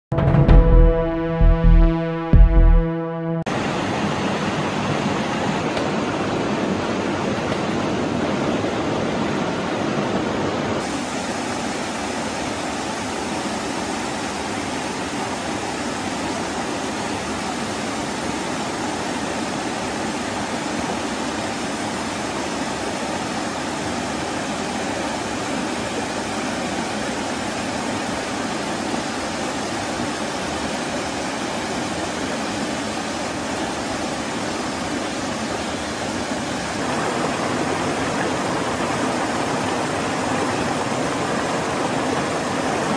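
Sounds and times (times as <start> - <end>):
waterfall rushing: 3.5 - 42.9.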